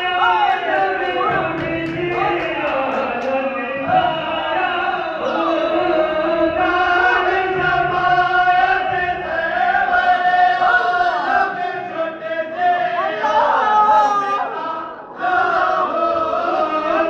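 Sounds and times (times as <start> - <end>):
men chanting together: 0.0 - 17.0.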